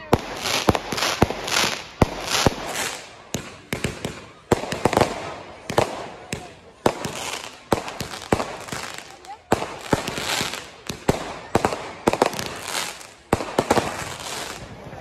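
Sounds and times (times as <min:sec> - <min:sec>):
fireworks bangs: 0:00.0 - 0:15.0
fireworks hiss: 0:00.0 - 0:15.0.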